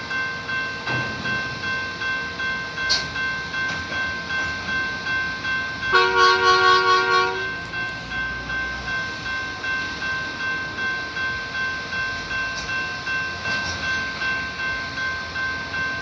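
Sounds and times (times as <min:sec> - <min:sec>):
railroad crossing bell dinging: 0:00.0 - 0:16.0.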